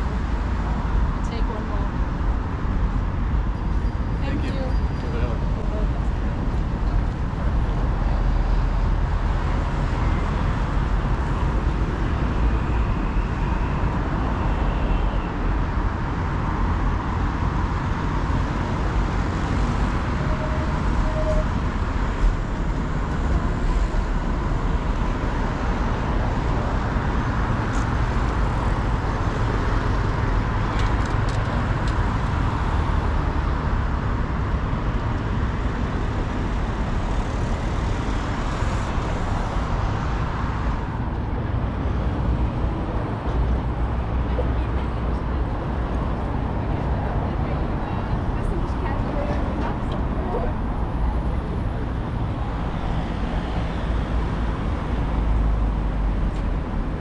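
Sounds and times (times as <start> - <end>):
passing road traffic rumble: 0.0 - 57.0.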